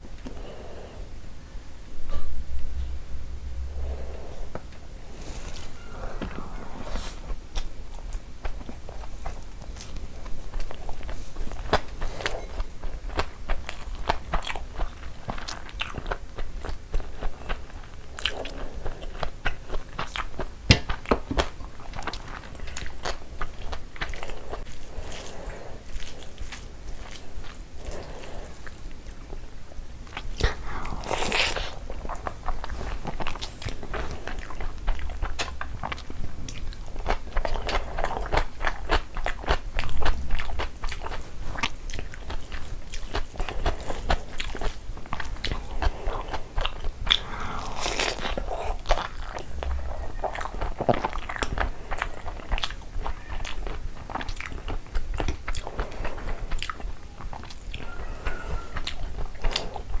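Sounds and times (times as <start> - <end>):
chewing and biting food: 7.3 - 60.0.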